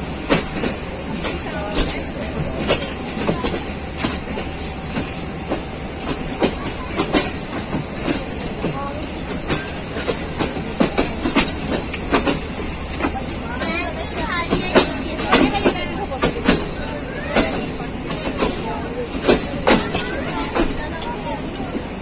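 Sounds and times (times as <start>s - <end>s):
train rumbling on track: 0.0s - 22.0s
train wheels clicking and knocking: 0.0s - 22.0s.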